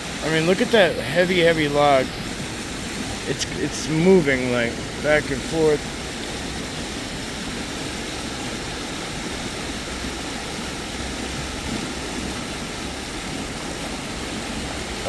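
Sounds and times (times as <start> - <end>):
creek rushing over rapids: 0.0 - 15.0.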